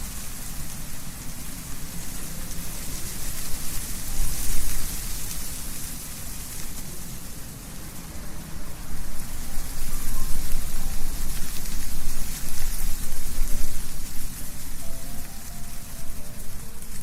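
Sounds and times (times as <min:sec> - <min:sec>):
leaves rustling: 0:00.0 - 0:17.0
wind gusting through trees: 0:00.0 - 0:17.0.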